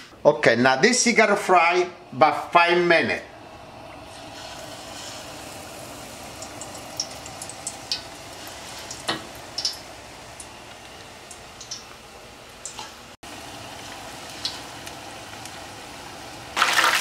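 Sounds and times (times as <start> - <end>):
fish deep-frying in oil: 3.4 - 17.0.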